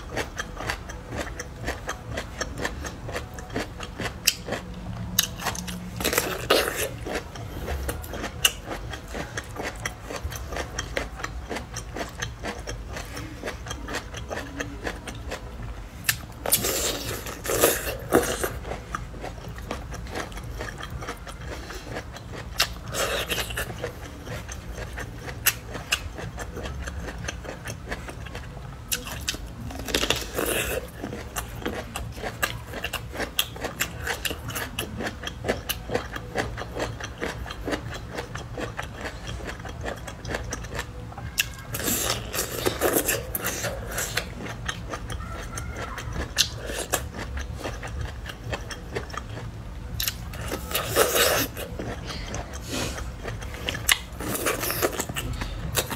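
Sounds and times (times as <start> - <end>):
chewing bamboo shoots: 0.0 - 55.9.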